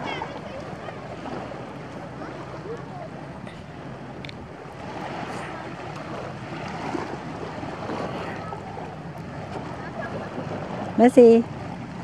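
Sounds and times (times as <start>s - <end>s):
surf rushing: 0.0s - 12.0s
water lapping: 0.0s - 12.0s
wind: 0.0s - 12.0s.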